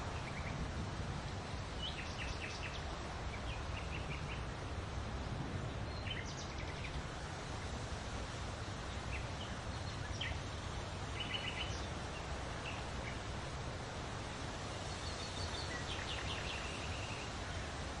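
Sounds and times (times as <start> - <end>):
small birds chirping: 1.5 - 7.8, 8.5 - 18.0.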